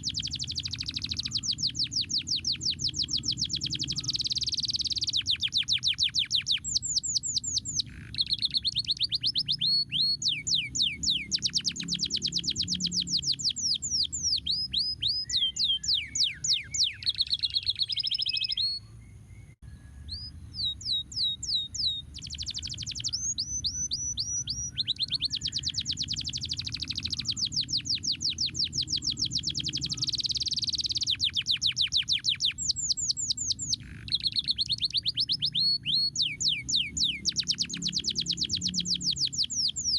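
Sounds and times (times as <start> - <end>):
canary singing trills: 0.0 - 39.9
low steady background noise: 0.0 - 39.9.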